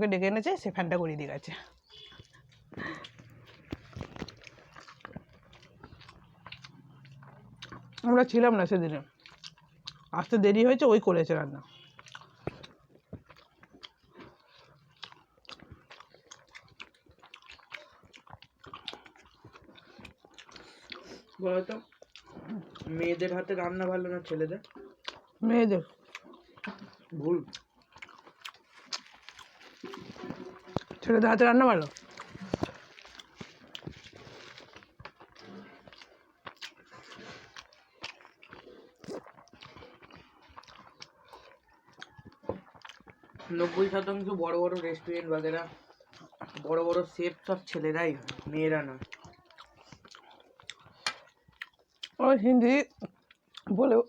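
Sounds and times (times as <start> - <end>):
people chewing food: 0.3 - 54.0.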